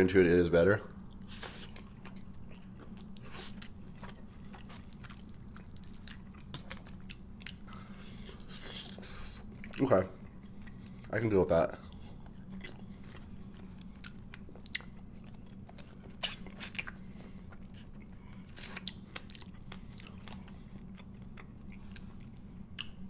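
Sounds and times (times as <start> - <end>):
steady low hum: 0.0 - 23.0
crunchy chewing of fried chicken: 1.0 - 23.0.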